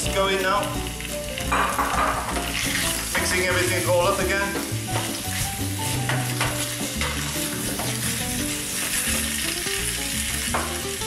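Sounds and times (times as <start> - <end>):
meat and vegetables sizzling: 0.0 - 11.0.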